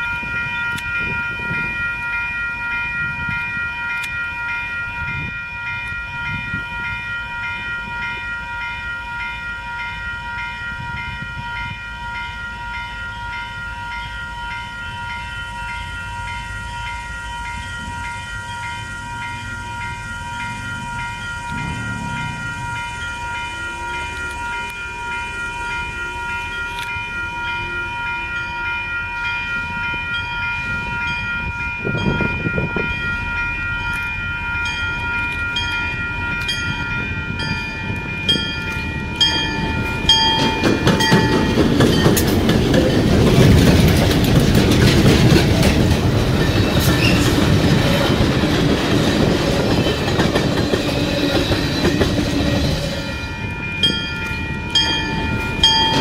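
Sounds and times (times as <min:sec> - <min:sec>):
diesel locomotive engine rumble: 0:00.0 - 0:56.0
level crossing bells ringing: 0:00.0 - 0:56.0.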